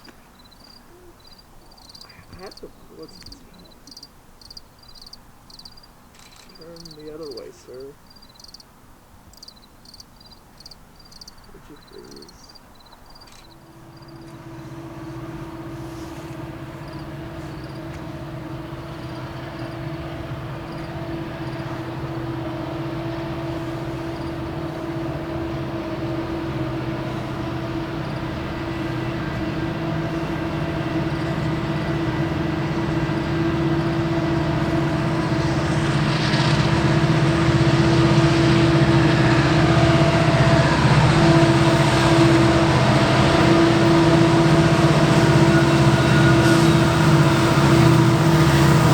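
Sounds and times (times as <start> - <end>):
diesel locomotive engine drone: 0.0 - 48.9.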